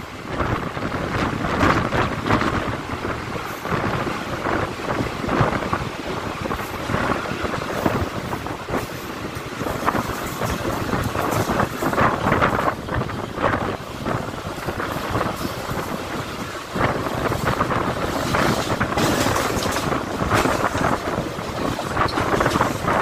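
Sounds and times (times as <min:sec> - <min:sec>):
train wheels rumbling on track: 0:00.0 - 0:23.0
wind buffeting microphone: 0:00.0 - 0:23.0.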